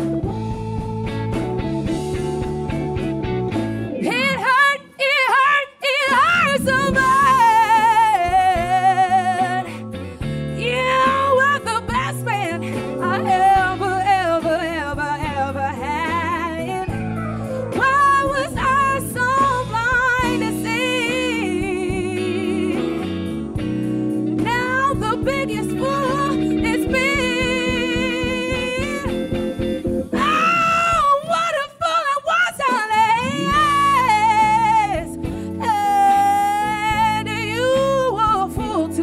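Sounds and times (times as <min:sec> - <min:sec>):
live band playing: 0:00.0 - 0:39.0
woman singing with vibrato: 0:04.0 - 0:09.8, 0:10.6 - 0:23.1, 0:24.4 - 0:29.3, 0:30.1 - 0:39.0.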